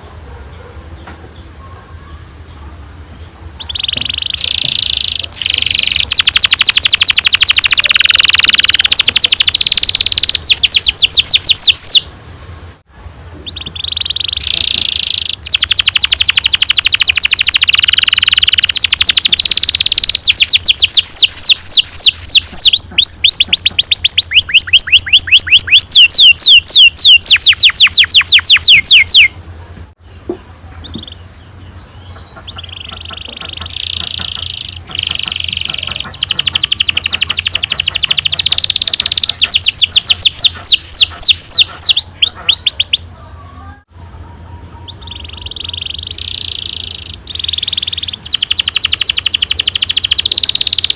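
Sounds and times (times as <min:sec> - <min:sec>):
canary singing rolling trills: 0:00.0 - 0:12.2, 0:13.4 - 0:29.4, 0:30.0 - 0:50.9.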